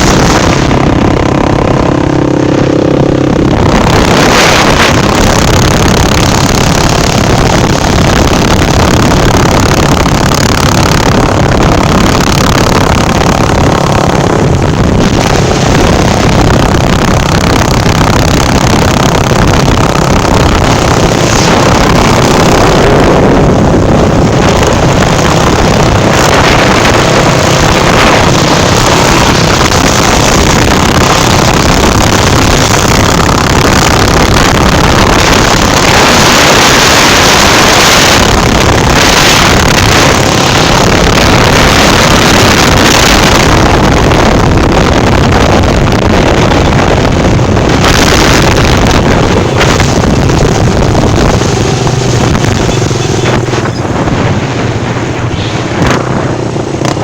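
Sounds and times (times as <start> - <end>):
motorcycle engine: 0.0 - 57.0
wind rush on microphone: 0.0 - 57.0.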